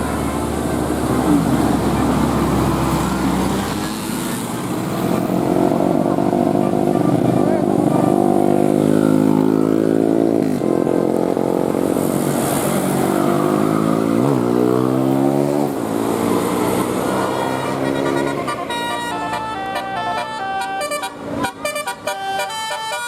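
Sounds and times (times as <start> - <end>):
vehicle engine under load: 0.0 - 22.9.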